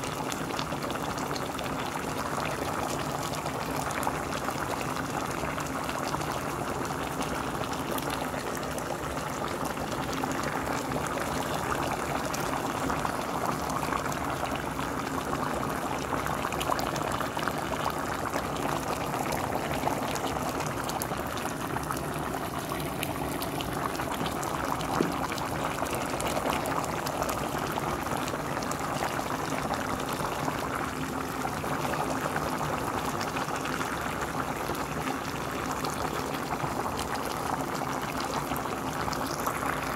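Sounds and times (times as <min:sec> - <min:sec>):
pot boiling with bubbling: 0:00.0 - 0:39.9.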